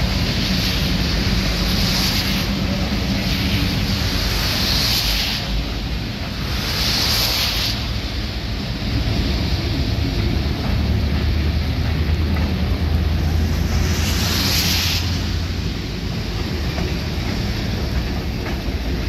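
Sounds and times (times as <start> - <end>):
hiss: 0.0 - 19.0
train wheels rumbling on rail: 0.0 - 19.0.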